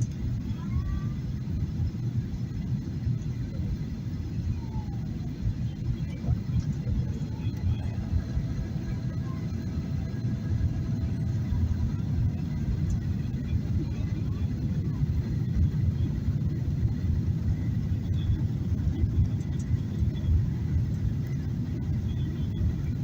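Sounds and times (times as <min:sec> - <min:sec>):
jet engine cabin rumble: 0:00.0 - 0:23.0.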